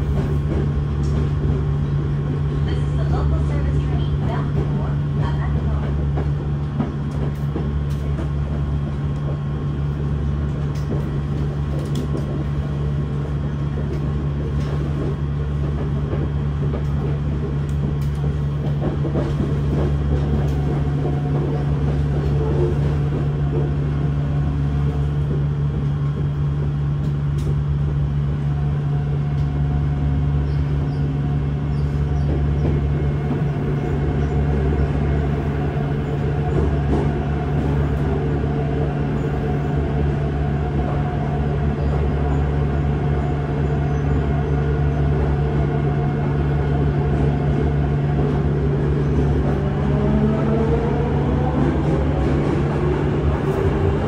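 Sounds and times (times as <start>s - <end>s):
train hum and rumble: 0.0s - 54.0s.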